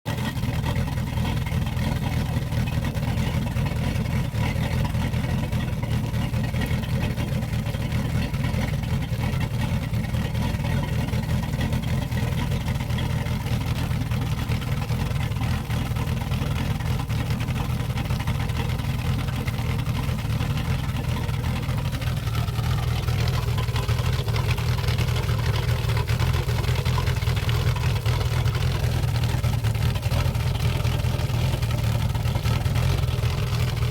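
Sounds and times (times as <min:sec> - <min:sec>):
boat engine exhaust drone: 0:00.1 - 0:33.9.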